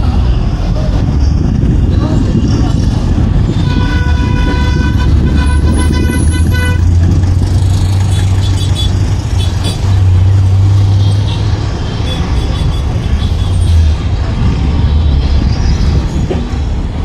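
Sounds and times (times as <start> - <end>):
bus engine droning: 0.0 - 17.0
road and traffic noise: 0.0 - 17.0.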